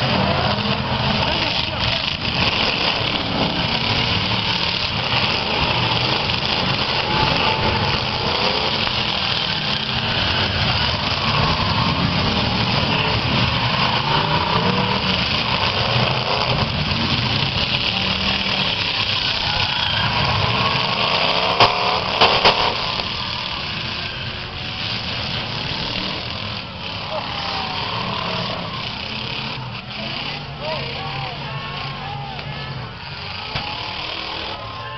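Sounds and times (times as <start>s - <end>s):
car engines revving: 0.0s - 34.9s.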